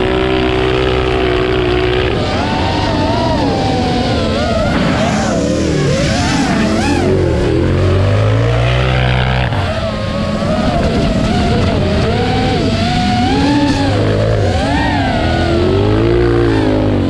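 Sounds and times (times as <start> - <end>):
buggy motor revving: 0.0 - 17.0
drone motor: 0.0 - 17.0
steady low hum: 0.0 - 17.0.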